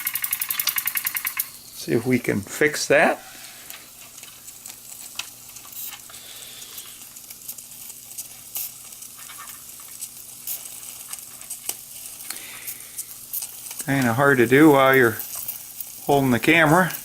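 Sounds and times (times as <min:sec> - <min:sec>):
toy steam engine hissing: 0:00.0 - 0:02.1, 0:02.8 - 0:17.0
crackles and pops of spitting steam: 0:00.0 - 0:17.0.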